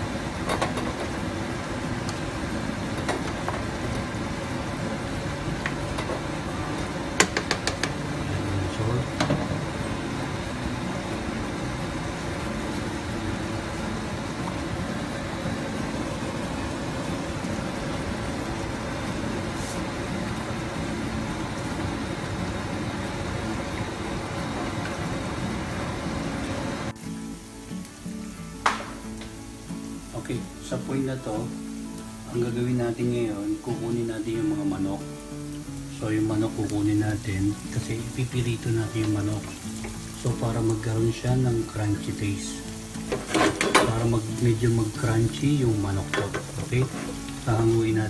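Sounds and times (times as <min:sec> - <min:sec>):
sauce bubbling in a pan: 0:00.0 - 0:48.0.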